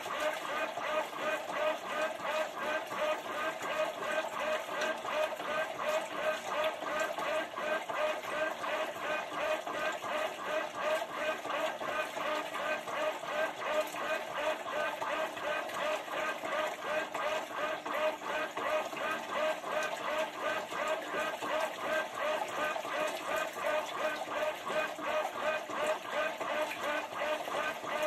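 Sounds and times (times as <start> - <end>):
washing machine agitating: 0.0 - 28.0.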